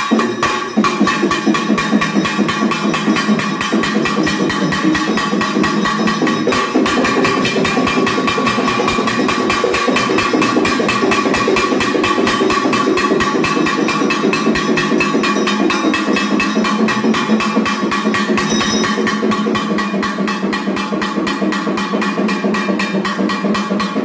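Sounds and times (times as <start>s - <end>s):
hand bell ringing rapidly: 0.0s - 23.6s.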